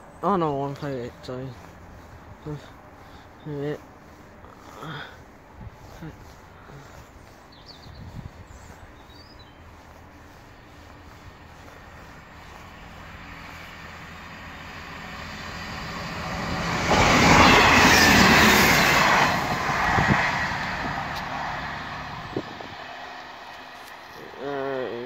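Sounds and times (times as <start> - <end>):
diesel train passing: 0.0 - 7.4, 8.2 - 24.9.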